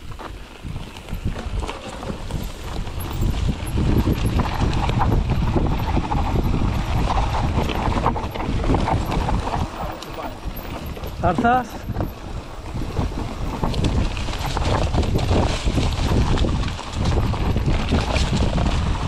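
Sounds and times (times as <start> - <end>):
bike rattling: 0.0 - 19.0
tyres rumbling over dirt and rocks: 0.0 - 19.0
wind buffeting microphone: 0.0 - 19.0.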